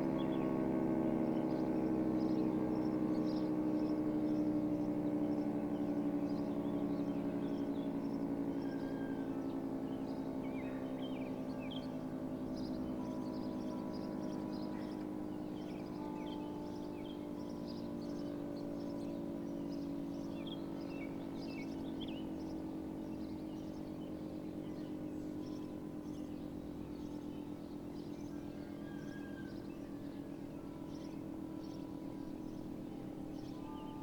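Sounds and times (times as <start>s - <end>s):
birds chirping: 0.0s - 34.0s
dual-tone warning siren: 2.5s - 27.6s, 28.2s - 34.0s.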